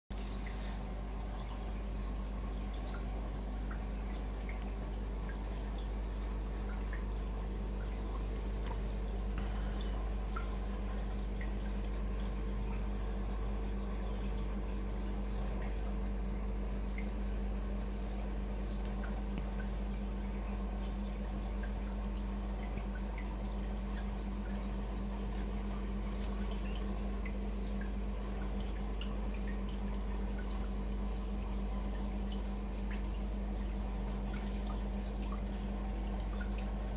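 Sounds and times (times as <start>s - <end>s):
pump hum: 0.1s - 36.9s
water trickling and dripping: 0.1s - 36.9s.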